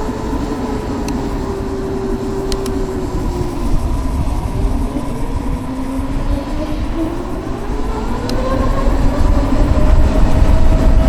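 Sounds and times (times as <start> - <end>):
electric motorcycle whine: 0.0 - 11.0
wind and road noise: 0.0 - 11.0.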